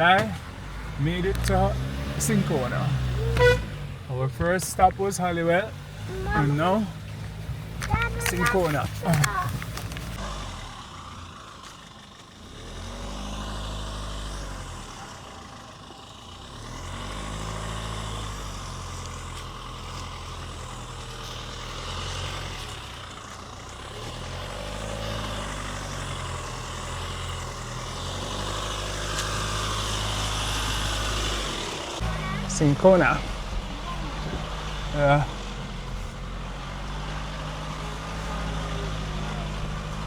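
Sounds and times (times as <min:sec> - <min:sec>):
pickup truck engine revving: 0:00.0 - 0:40.0
road noise: 0:00.0 - 0:40.0.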